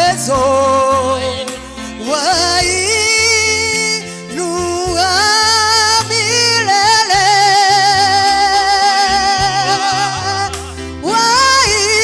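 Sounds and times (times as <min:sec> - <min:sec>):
instrumental backing with bass line: 0:00.0 - 0:12.0
person singing with vibrato: 0:00.0 - 0:12.0.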